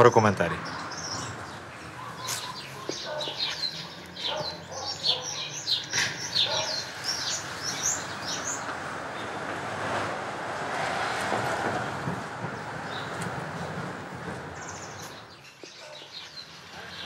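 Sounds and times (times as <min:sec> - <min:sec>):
small birds chirping: 0:00.0 - 0:09.6, 0:12.4 - 0:17.0.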